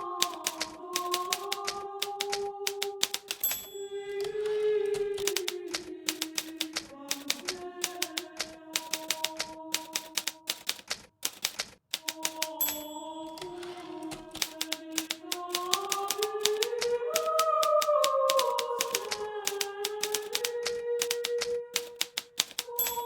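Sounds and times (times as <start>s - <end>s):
typewriter keys striking: 0.2s - 23.0s.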